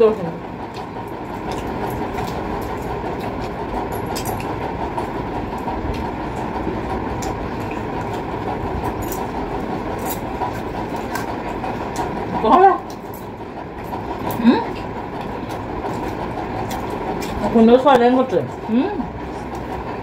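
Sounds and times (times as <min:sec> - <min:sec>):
electric fan running: 0:00.0 - 0:20.0
faint eating clicks: 0:00.6 - 0:19.9.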